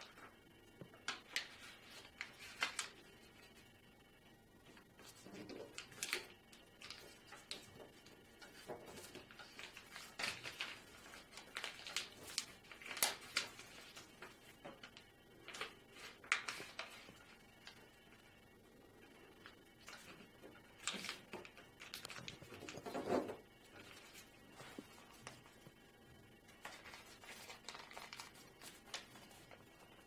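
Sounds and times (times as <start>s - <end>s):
paper crackling and rustling: 0.0s - 3.6s, 4.7s - 17.9s, 19.4s - 25.8s, 26.5s - 30.0s.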